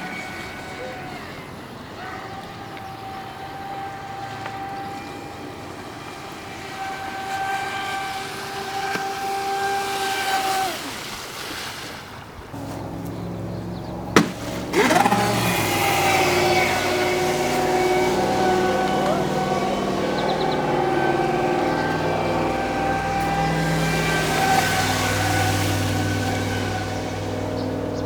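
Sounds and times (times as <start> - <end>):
electric motor whining: 0.0 - 11.3, 12.5 - 28.0.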